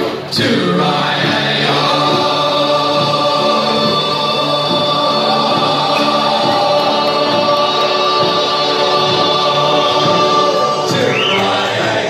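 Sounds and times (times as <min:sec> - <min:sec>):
choir singing sustained chords: 0:00.0 - 0:12.0.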